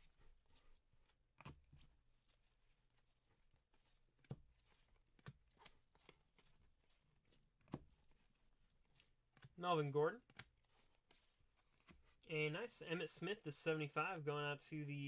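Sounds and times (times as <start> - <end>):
cards sliding and flipping: 0.1 - 9.5, 10.2 - 13.9.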